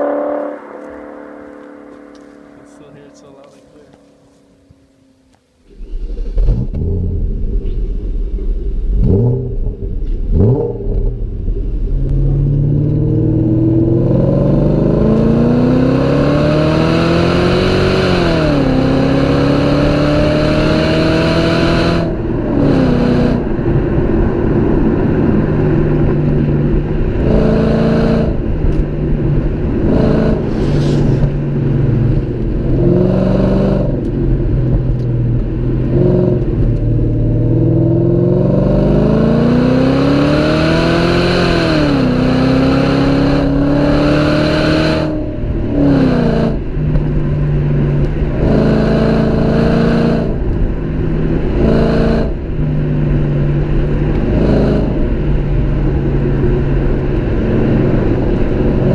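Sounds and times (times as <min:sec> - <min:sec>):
car engine revving and accelerating: 0:05.7 - 0:58.9.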